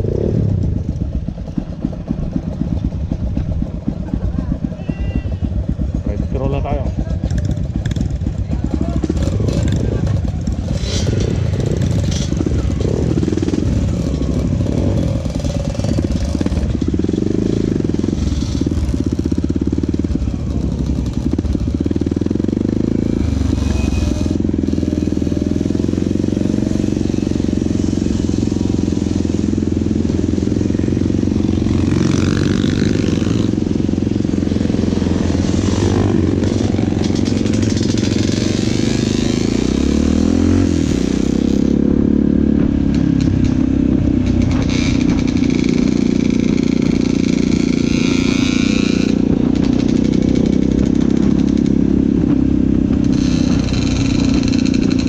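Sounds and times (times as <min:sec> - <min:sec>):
dirt bike engine revving: 0:05.5 - 0:55.0.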